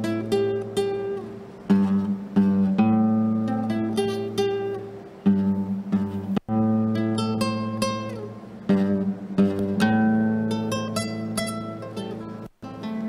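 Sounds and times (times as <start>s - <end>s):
acoustic guitar plucked chords: 0.0s - 13.0s.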